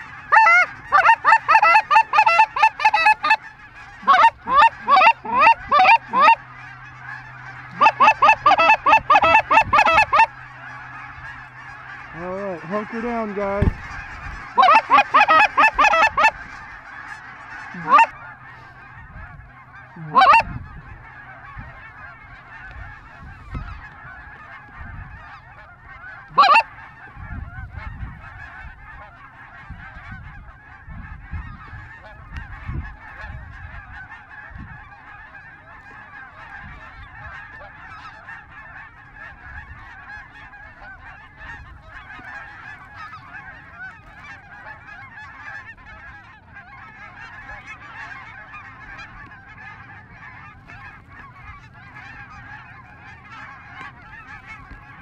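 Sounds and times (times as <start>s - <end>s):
flock of geese honking: 0.0s - 55.0s
loud rising goose calls: 0.0s - 55.0s.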